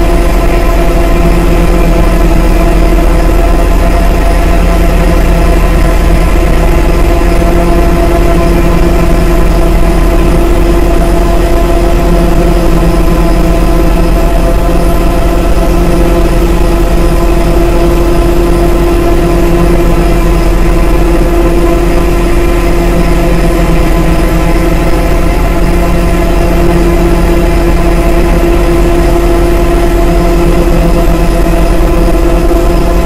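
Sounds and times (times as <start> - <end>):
dark synthesizer drone: 0.0 - 33.0.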